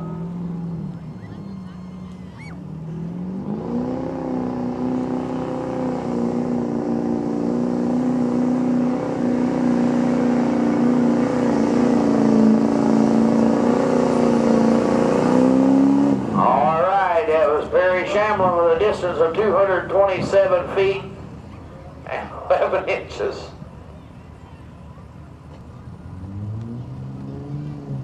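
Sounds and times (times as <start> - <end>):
pickup truck engine revving: 0.0 - 23.6, 25.0 - 28.0.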